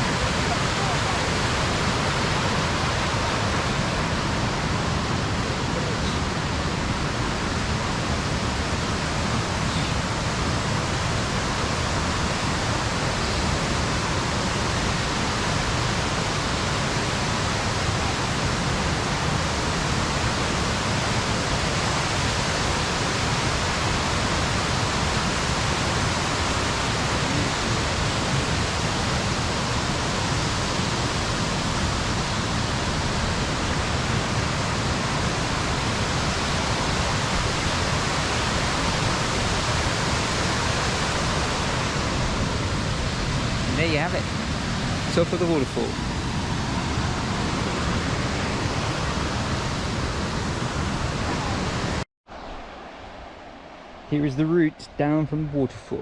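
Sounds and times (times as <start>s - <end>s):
waterfall rushing: 0.0s - 53.2s.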